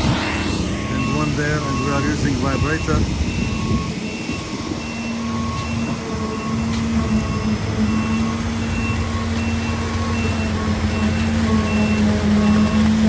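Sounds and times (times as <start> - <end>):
heavy machinery droning: 0.0 - 13.0
reversing alarm beeping: 0.0 - 13.0.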